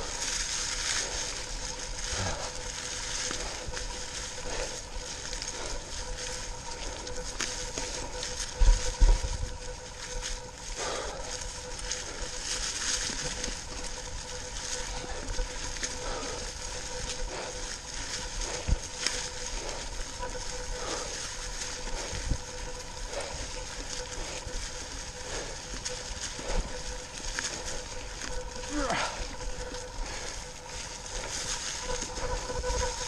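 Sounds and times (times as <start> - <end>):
bike tyres crunching leaves: 0.0 - 33.0
faint steady hum: 0.0 - 33.0.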